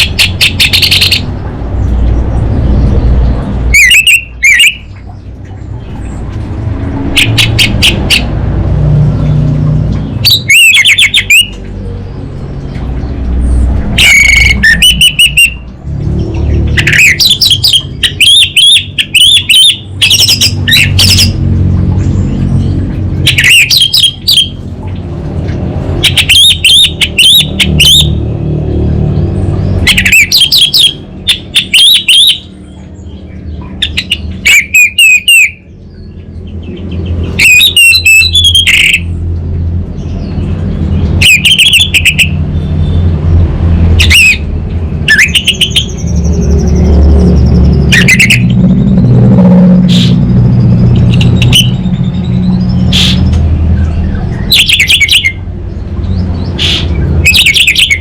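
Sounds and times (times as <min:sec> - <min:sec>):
low background rumble: 0:00.0 - 0:34.8, 0:35.5 - 0:58.0
bird singing warbling notes: 0:00.0 - 0:58.0.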